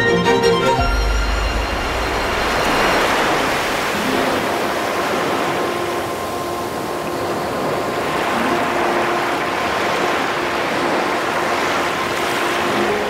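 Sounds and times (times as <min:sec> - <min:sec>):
sea surf rushing: 0:00.1 - 0:13.0.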